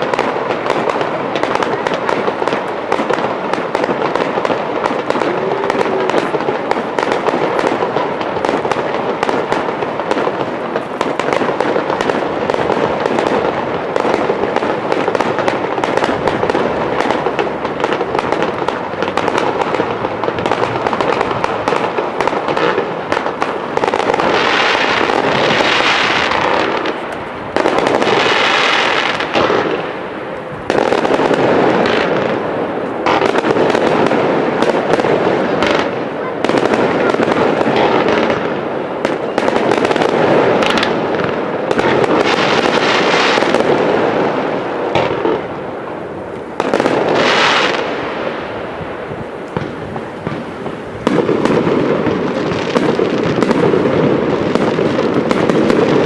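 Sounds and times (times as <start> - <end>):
crackling firework volleys: 0.0 - 56.0
fireworks bursting and cracking: 0.0 - 56.0.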